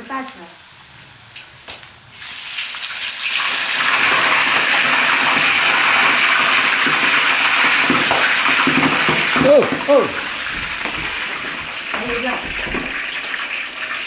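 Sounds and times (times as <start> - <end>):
meat sizzling in hot oil: 0.1 - 14.0
oil popping: 1.3 - 14.0.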